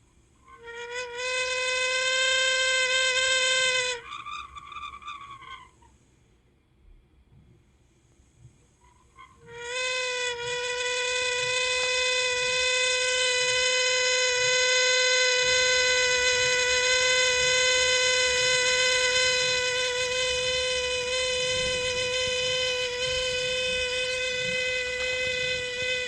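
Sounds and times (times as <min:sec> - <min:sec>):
fan motor bearing squealing: 0:00.4 - 0:06.0, 0:08.8 - 0:26.0.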